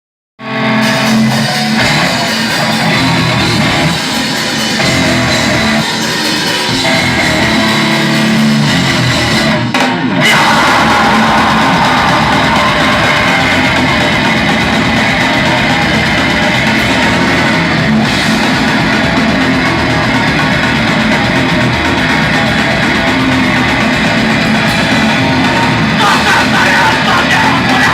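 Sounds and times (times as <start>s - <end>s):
drum kit: 0.4s - 27.9s
electric guitars: 0.4s - 27.9s.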